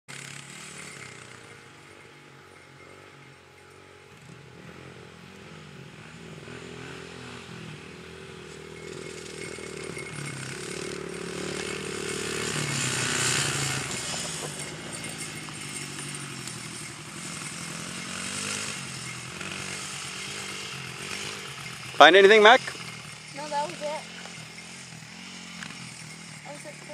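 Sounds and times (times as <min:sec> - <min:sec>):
dirt bike engine revving: 0:00.1 - 0:26.9.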